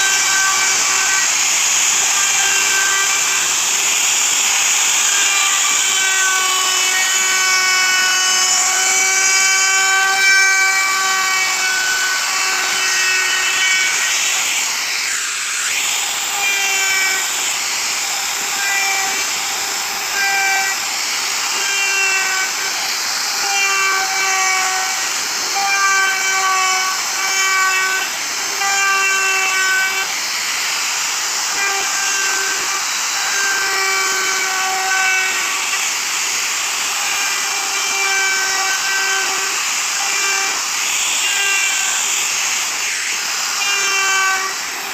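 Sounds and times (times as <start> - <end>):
router cutting wood: 0.0 - 44.9.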